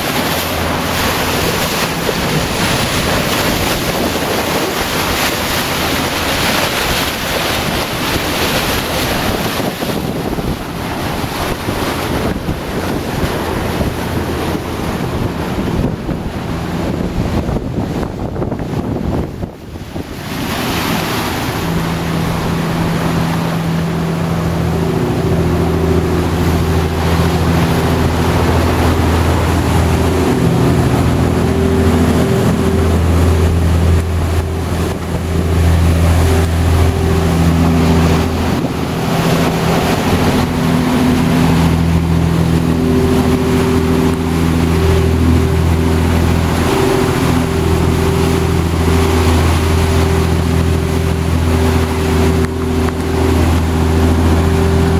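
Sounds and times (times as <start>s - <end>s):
boat engine humming: 0.0s - 54.9s
wind and water rushing: 0.0s - 54.9s.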